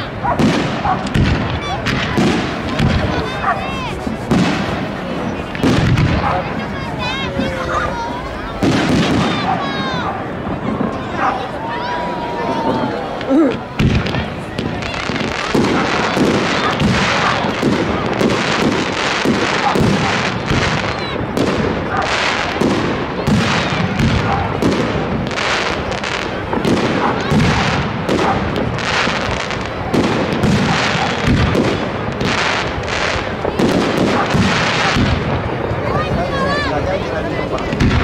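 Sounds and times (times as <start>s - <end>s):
fireworks bangs and crackle: 0.0s - 38.0s.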